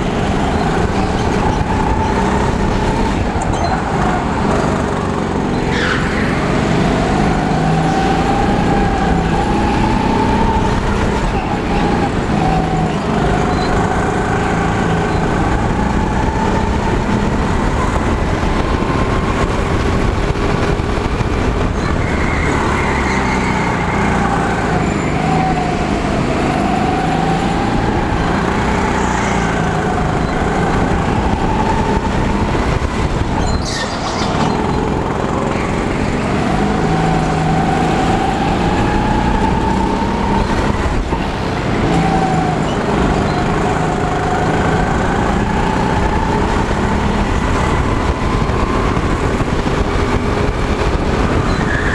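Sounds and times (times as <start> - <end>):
go-kart engine: 0.0 - 51.9.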